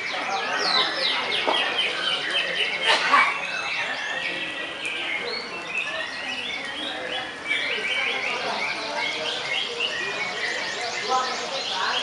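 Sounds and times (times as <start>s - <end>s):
canaries chirping: 0.0s - 12.0s.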